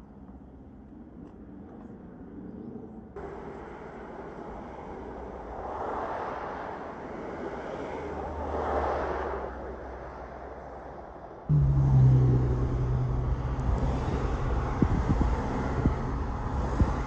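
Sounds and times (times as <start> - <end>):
vehicles passing: 3.2 - 17.0.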